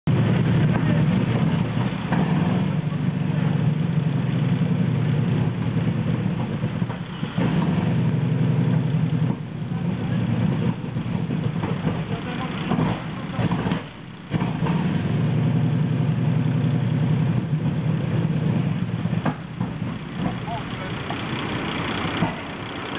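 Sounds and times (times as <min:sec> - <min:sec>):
tank engine idling: 0:00.0 - 0:22.9.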